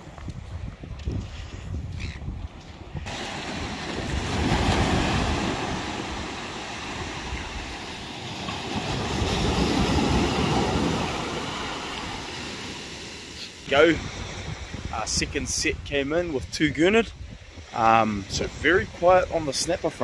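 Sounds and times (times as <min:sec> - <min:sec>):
wind buffeting microphone: 0:00.0 - 0:12.6, 0:13.6 - 0:19.5
surf waves breaking on sand: 0:02.4 - 0:20.0.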